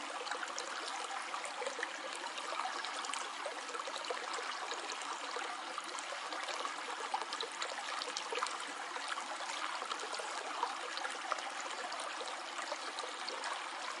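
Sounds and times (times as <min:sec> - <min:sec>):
stream babbling over stones: 0:00.0 - 0:14.0.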